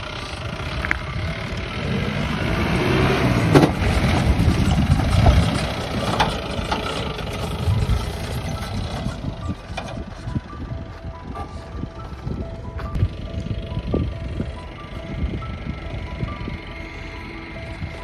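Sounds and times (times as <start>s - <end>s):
diesel engine driving past: 0.0s - 18.0s.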